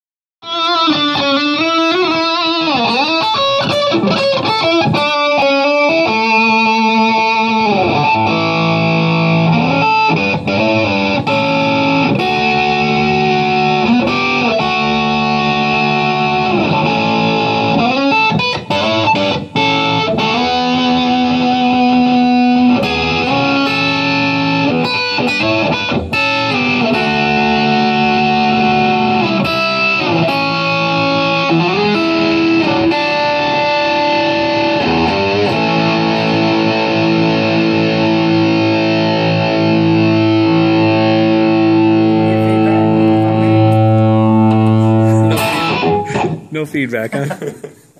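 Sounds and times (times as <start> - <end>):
overdriven electric guitar: 0.4 - 46.5.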